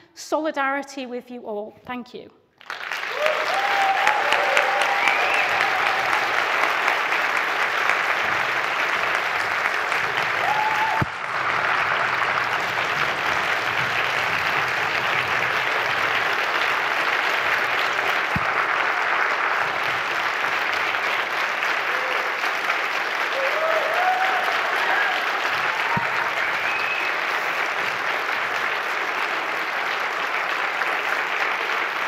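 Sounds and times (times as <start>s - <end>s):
large audience applauding: 2.6s - 32.0s.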